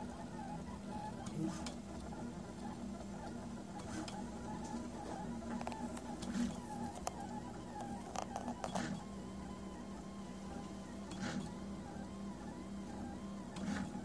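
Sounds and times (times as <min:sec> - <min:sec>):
printer stepper motors whining: 0:00.0 - 0:14.0.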